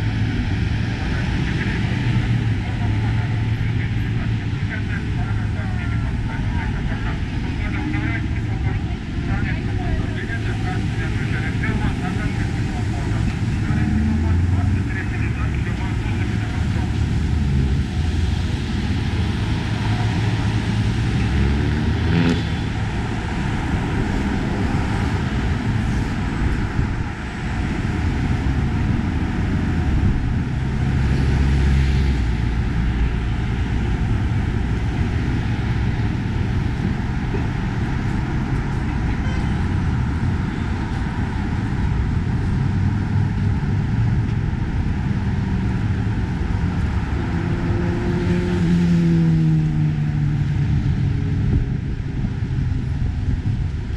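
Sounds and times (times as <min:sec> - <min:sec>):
city street traffic rumble: 0:00.0 - 0:53.9.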